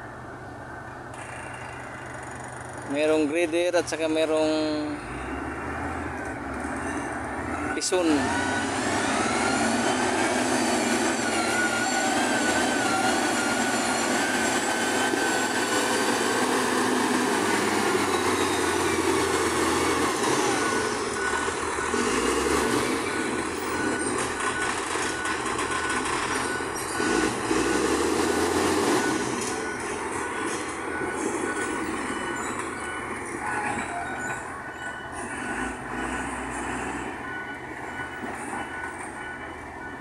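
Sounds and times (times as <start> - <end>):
grader diesel engine under load: 0.0 - 40.0.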